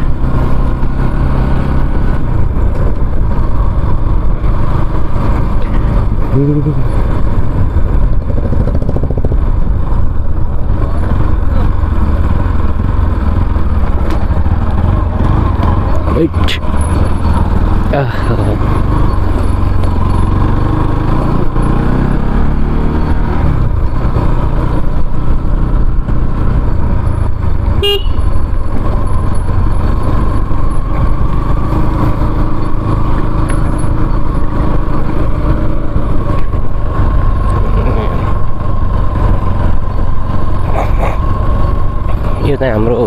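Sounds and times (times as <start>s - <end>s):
motorcycle engine: 0.0s - 43.0s
road noise: 0.0s - 43.0s.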